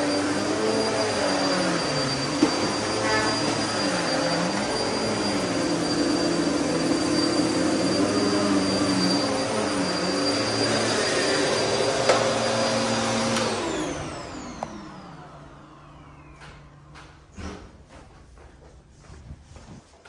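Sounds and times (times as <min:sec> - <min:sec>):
vacuum cleaner on carpet: 0:00.0 - 0:17.6.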